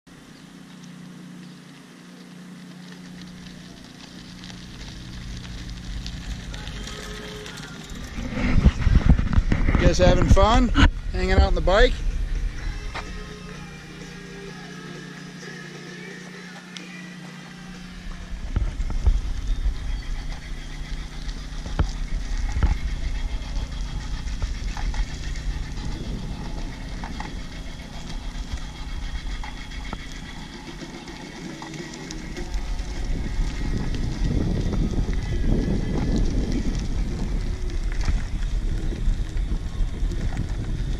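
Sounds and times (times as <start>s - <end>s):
tyres rumbling on gravel: 0.2s - 40.9s
wind buffeting microphone: 3.3s - 13.4s, 18.0s - 40.9s.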